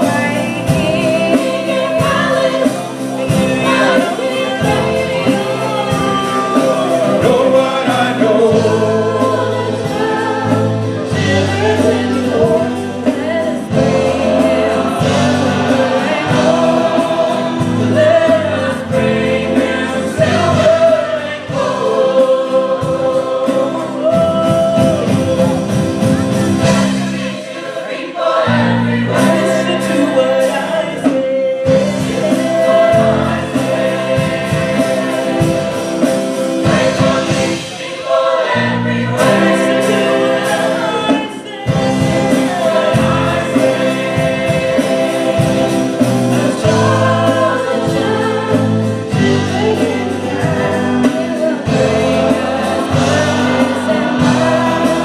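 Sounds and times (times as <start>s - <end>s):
drum kit: 0.0s - 55.0s
gospel choir singing: 0.0s - 55.0s
keyboard: 0.0s - 55.0s
lead vocalist singing: 0.0s - 55.0s.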